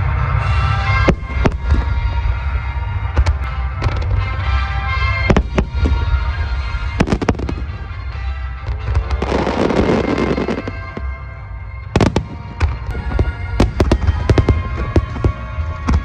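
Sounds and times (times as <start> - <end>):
music playing: 0.0 - 16.0
deep booming rumble: 0.8 - 4.0, 5.3 - 16.0
fireworks bangs: 0.8 - 4.4, 5.0 - 16.0.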